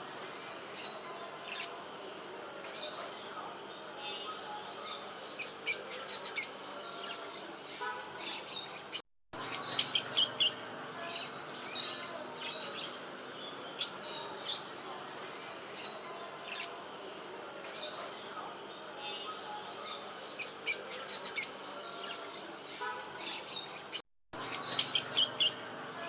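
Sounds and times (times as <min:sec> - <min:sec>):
small birds chirping: 0:00.2 - 0:26.0.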